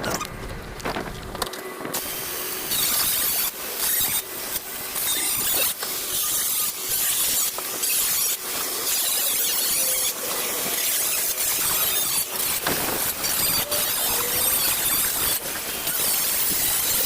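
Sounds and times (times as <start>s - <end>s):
power tool squealing: 2.0s - 17.0s.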